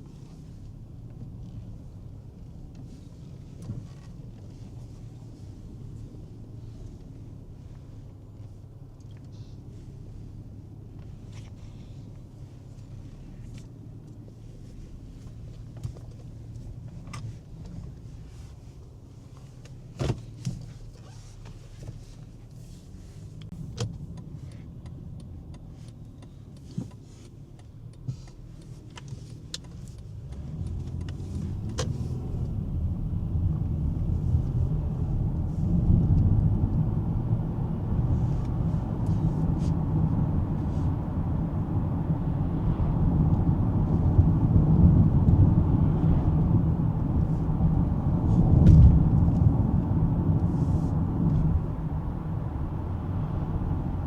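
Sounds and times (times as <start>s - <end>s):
engine and road rumble: 0.0s - 54.0s.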